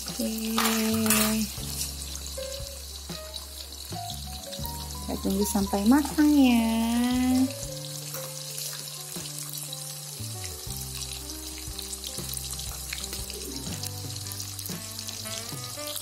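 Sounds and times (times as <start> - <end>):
fish frying in hot oil: 0.0 - 16.0
oil crackling and popping: 0.0 - 16.0.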